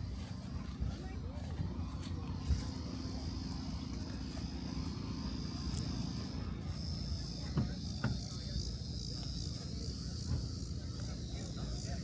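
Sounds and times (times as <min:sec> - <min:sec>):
insects trilling: 0:01.9 - 0:12.0.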